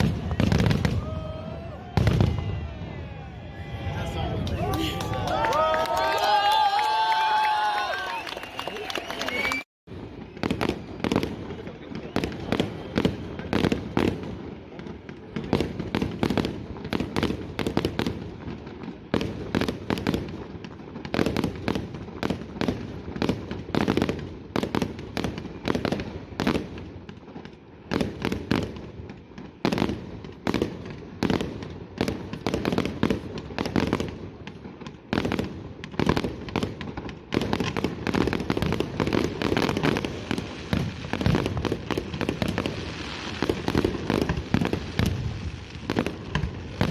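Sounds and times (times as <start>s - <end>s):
fireworks sharp bangs: 0.0s - 4.8s, 9.9s - 46.9s.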